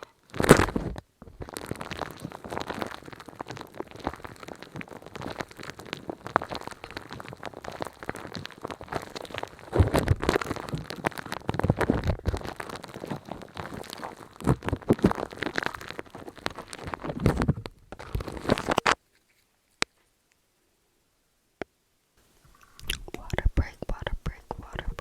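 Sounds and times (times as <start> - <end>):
dense crackling and clicking: 0.0 - 20.4, 22.6 - 25.0.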